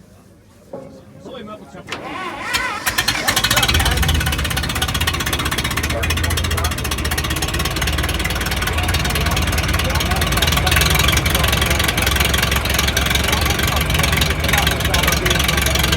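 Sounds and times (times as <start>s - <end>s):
tractor engine running: 1.9s - 15.9s.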